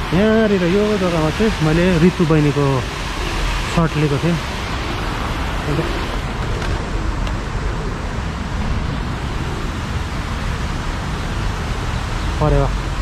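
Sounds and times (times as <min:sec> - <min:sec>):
outdoor rushing noise: 0:00.0 - 0:13.0.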